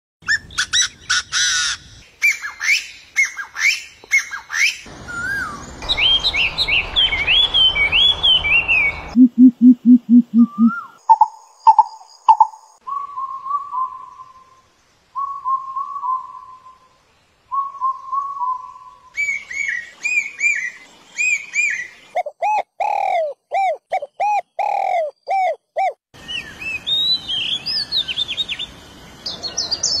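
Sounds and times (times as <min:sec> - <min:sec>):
bird calls and songs: 0:00.2 - 0:09.2, 0:10.4 - 0:30.0.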